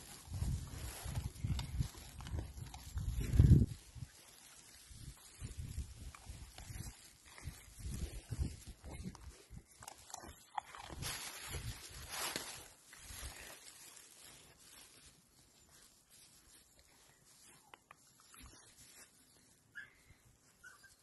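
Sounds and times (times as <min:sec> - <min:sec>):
rustling in straw: 0:00.0 - 0:21.0.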